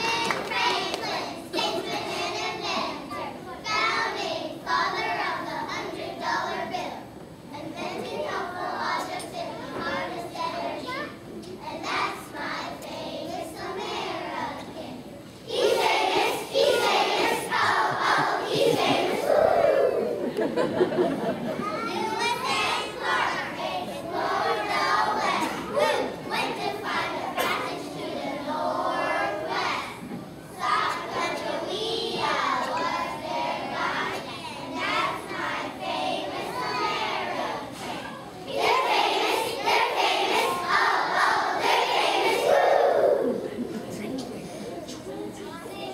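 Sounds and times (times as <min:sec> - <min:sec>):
children's choir singing: 0:00.0 - 0:11.0, 0:11.7 - 0:45.9
quiet children's voices: 0:00.0 - 0:45.9.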